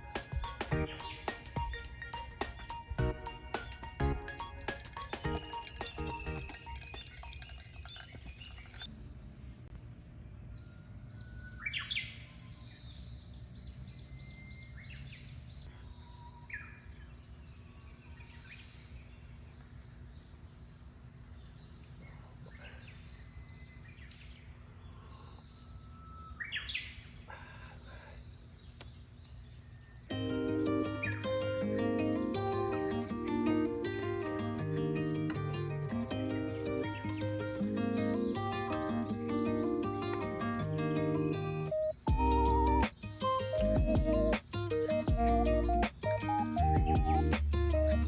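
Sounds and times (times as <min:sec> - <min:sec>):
low outdoor background noise: 0:00.0 - 0:48.0.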